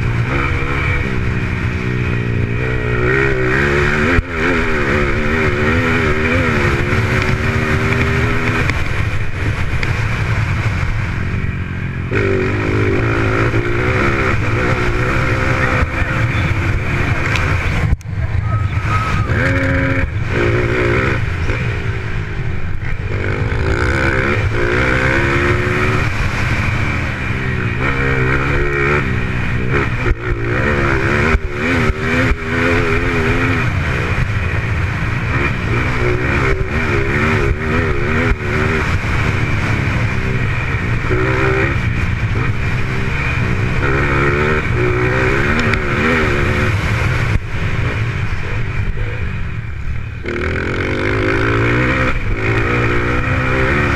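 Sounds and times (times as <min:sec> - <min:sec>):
motorcycle engines revving: 0:00.0 - 0:53.9.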